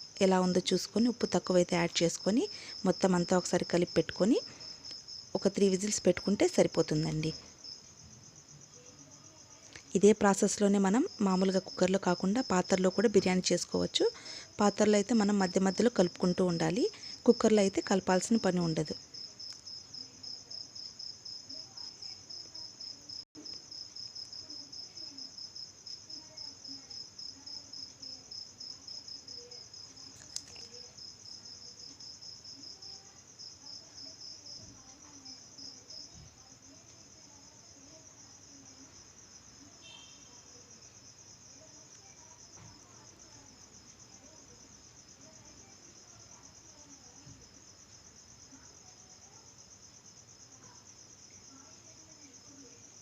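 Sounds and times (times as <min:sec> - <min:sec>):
cricket chirping: 0:00.0 - 0:53.0.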